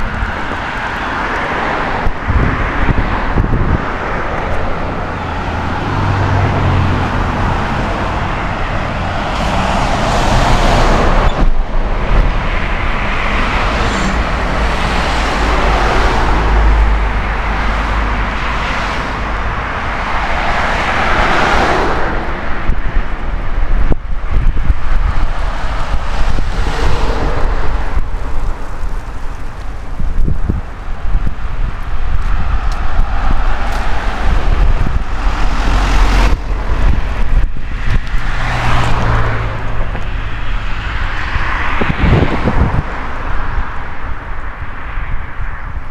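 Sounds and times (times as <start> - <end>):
cars passing: 0.0 - 45.9
constant low traffic rumble: 0.0 - 45.9.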